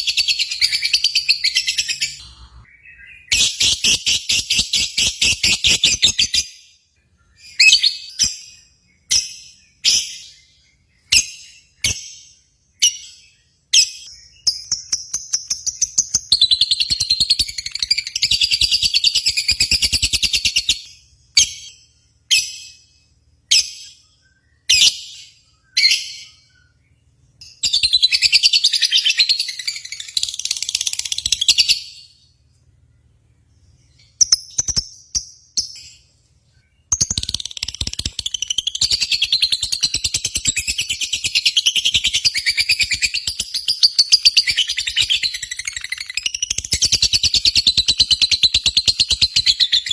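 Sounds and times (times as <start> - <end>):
lovebirds chirping: 0.0 - 49.9.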